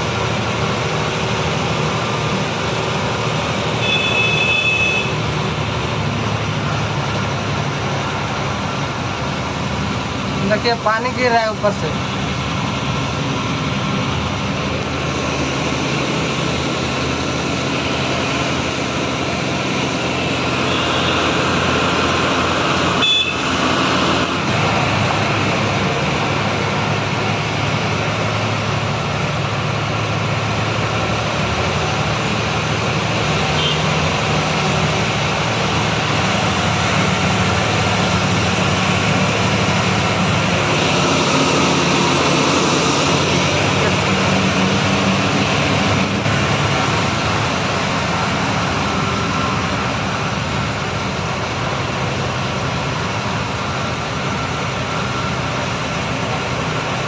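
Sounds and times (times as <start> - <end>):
road noise: 0.0 - 57.0
truck engine: 0.0 - 57.0.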